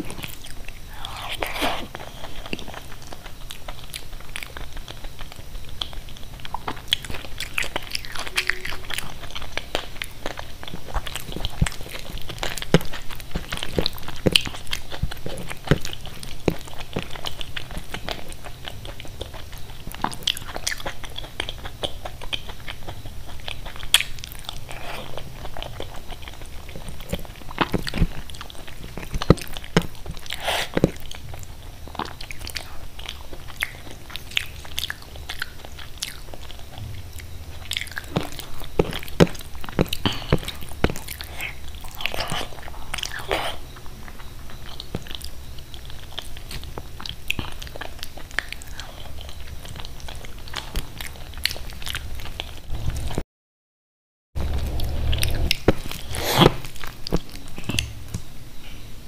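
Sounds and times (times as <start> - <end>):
wet chewing and lip smacking: 0.0 - 53.2, 54.4 - 58.3.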